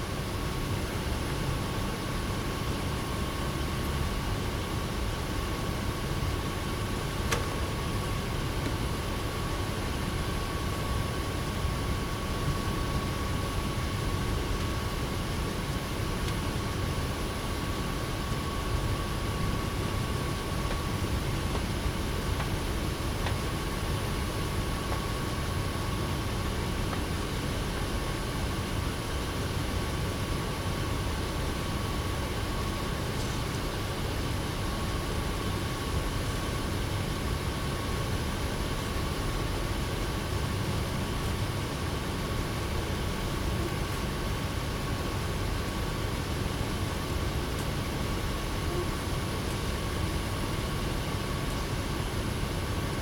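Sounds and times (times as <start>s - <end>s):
low rumbling background noise: 0.0s - 53.0s.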